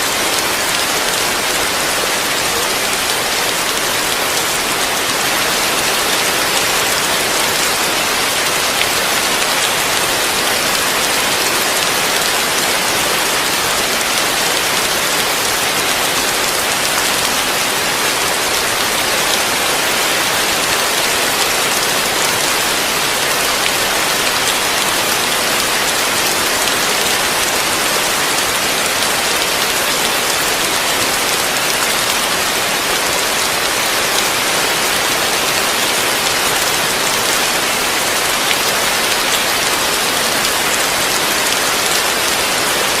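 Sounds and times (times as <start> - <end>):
heavy rain on a roof: 0.0 - 43.0.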